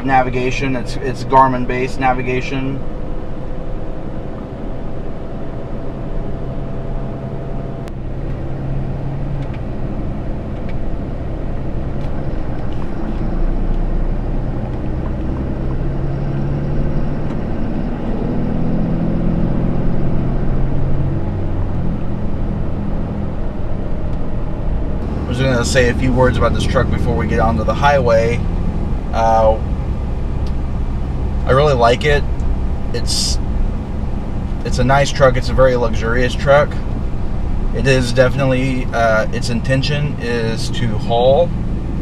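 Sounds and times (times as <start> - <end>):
diesel pickup engine running: 0.0 - 42.0
road noise: 0.0 - 42.0.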